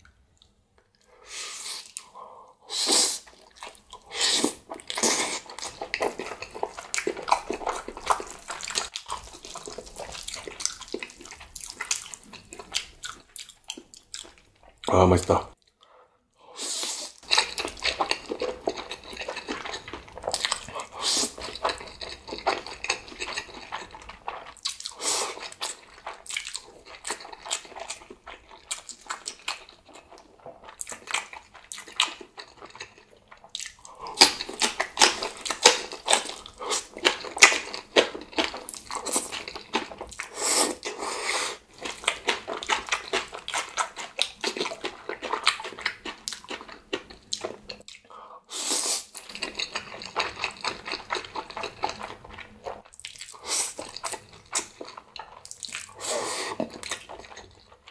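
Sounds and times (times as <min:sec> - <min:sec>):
wet chewing and crunching: 0:03.2 - 0:15.8, 0:17.2 - 0:48.2, 0:48.8 - 0:57.9.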